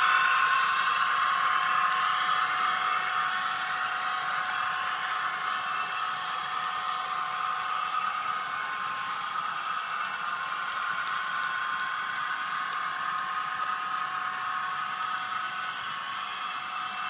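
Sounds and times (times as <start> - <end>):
model train wheels whirring: 0.0 - 17.0.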